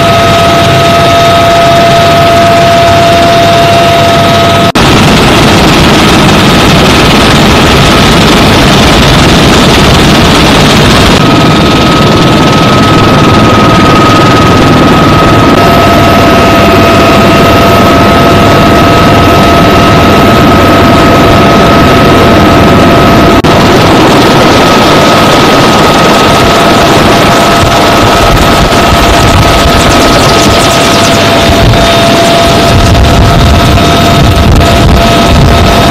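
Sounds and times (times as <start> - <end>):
helicopter engines and rotor: 0.0 - 35.9.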